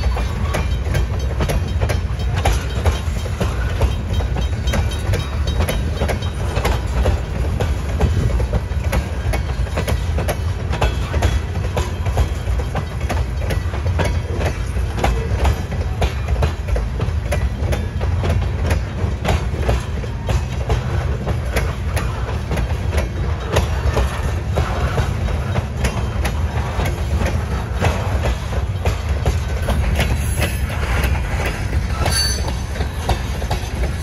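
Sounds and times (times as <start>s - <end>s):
freight train wheels clicking: 0.0s - 34.0s.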